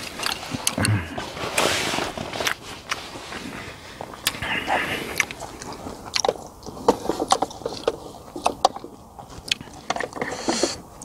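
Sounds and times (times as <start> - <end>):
person chewing and crunching food: 0.0 - 11.0.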